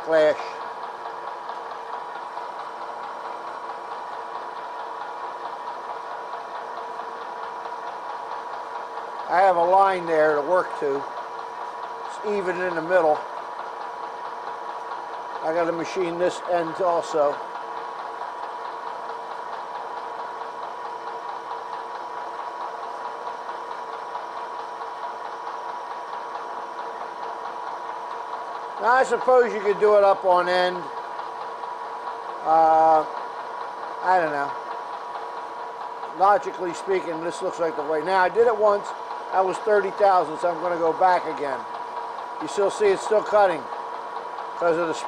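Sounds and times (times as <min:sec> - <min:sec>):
milling machine humming: 0:00.0 - 0:45.0.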